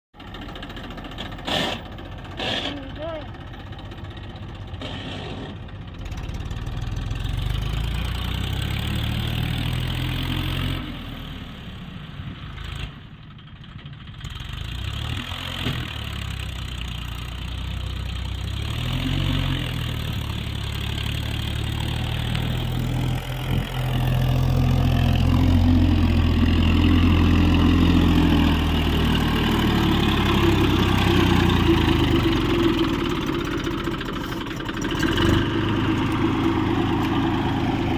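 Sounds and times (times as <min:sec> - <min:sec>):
tractor engine running: 0:00.1 - 0:09.9, 0:12.2 - 0:15.0, 0:19.7 - 0:37.9.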